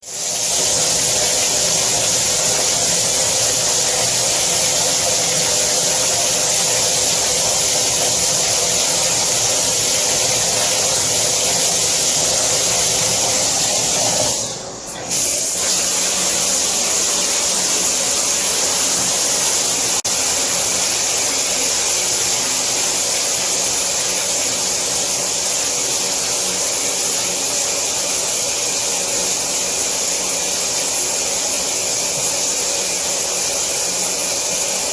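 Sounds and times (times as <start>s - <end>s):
shower running: 0.0s - 34.9s.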